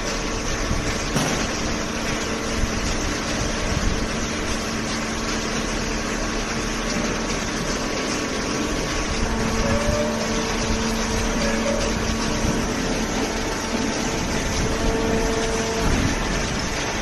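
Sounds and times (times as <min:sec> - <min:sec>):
dense machine noise: 0:00.0 - 0:17.0
hydraulic power unit humming: 0:00.0 - 0:17.0.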